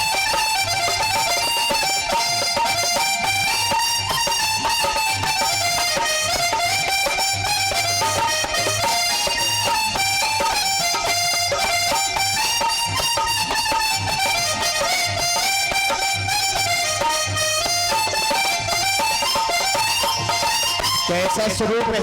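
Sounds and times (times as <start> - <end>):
harmonium melody: 0.0 - 22.0.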